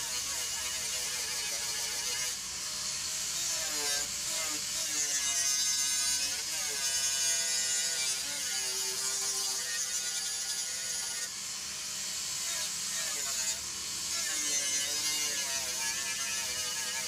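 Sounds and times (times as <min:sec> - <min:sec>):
grinding hiss: 0:00.0 - 0:17.0.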